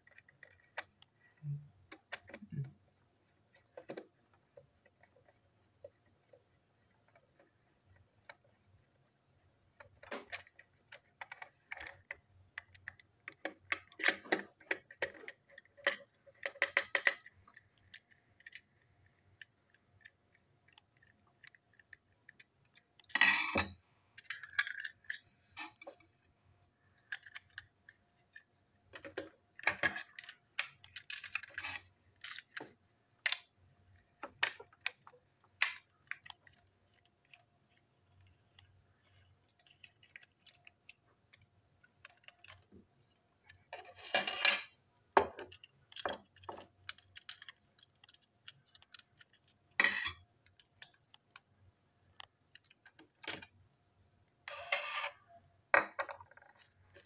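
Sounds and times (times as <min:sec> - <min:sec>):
plastic parts clicking and rattling: 0:00.0 - 0:09.0, 0:09.7 - 0:53.6, 0:54.3 - 0:57.0.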